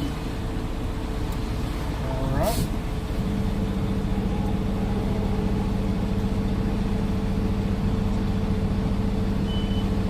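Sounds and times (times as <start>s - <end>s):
constant low hum: 0.0s - 10.0s
diesel engine running: 0.0s - 10.0s.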